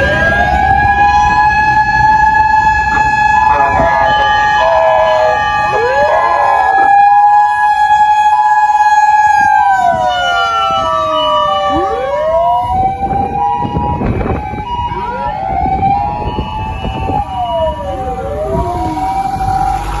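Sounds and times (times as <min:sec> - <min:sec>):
electronic siren tones: 0:00.0 - 0:20.0
mechanical sirens wailing: 0:00.0 - 0:20.0.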